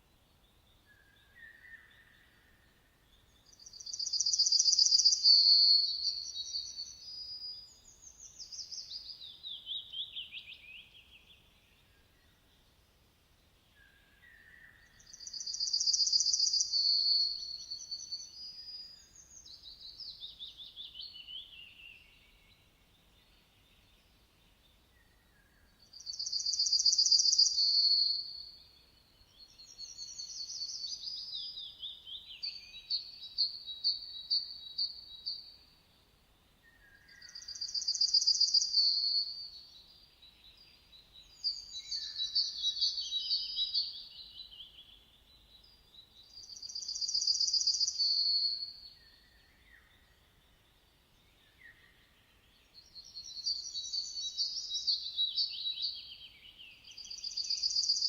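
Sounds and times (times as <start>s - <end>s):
fainter lower bird calls: 0.0s - 12.5s, 13.8s - 24.2s, 24.8s - 36.0s, 36.6s - 58.0s.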